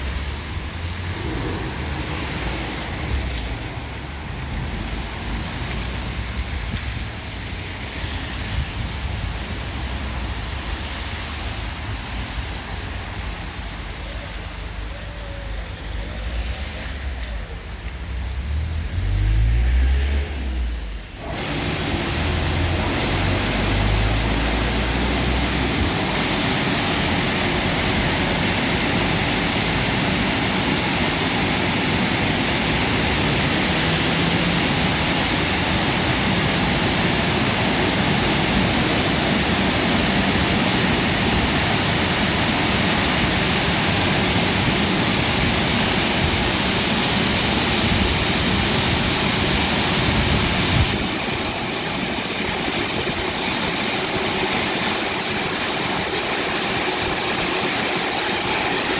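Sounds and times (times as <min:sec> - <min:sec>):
automatic car wash rushing: 0:00.0 - 0:58.9.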